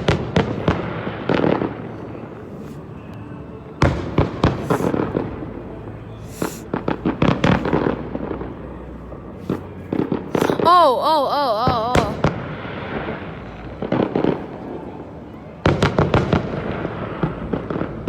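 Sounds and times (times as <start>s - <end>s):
fireworks bangs and crackles: 0.0s - 3.0s, 3.8s - 10.7s, 11.6s - 18.0s.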